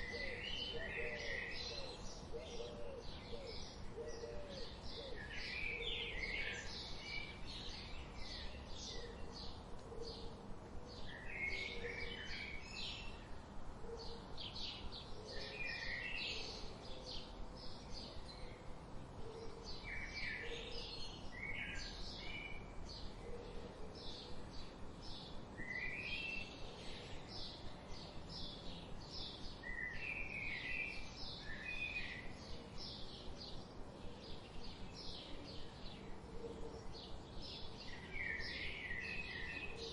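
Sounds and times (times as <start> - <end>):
songbirds chirping and singing: 0.0 - 39.9
steady background hiss: 0.0 - 39.9.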